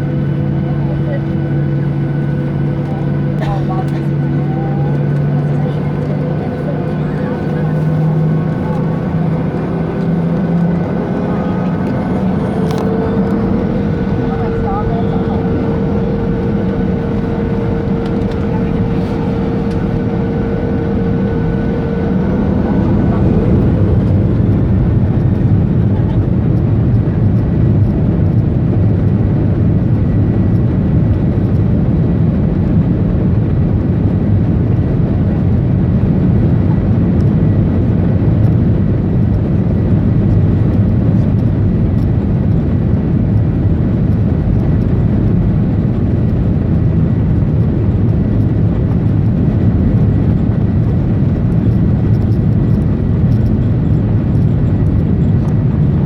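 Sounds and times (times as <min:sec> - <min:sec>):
faint whine: 0:00.0 - 0:56.0
jet engines roaring at takeoff: 0:00.0 - 0:56.0.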